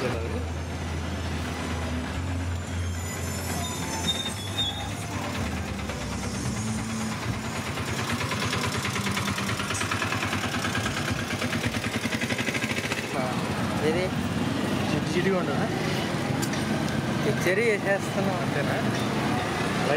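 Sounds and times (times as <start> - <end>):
vehicle engine running: 0.0 - 19.9.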